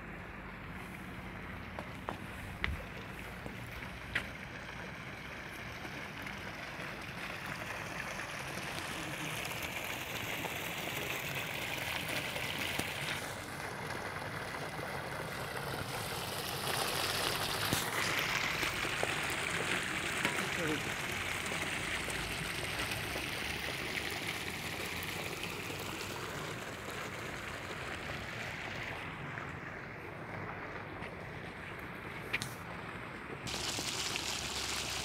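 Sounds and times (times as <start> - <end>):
pool water hissing and trickling: 0.0 - 35.0.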